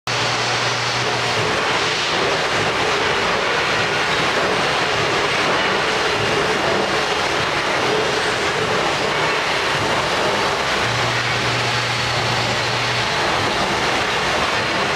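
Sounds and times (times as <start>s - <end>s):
lathe running with rushing noise: 0.1s - 14.9s.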